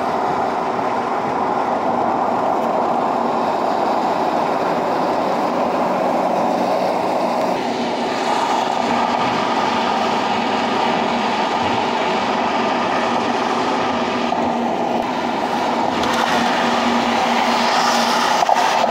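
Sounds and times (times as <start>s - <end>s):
car road and tyre noise: 0.0s - 18.9s.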